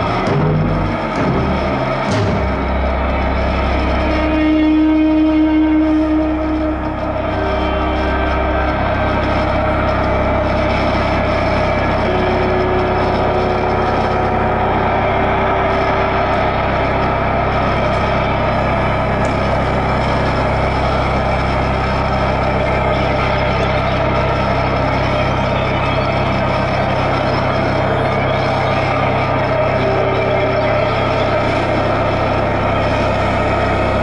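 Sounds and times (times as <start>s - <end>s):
distorted droning noise music: 0.0s - 34.0s
sustained low hum: 0.0s - 34.0s.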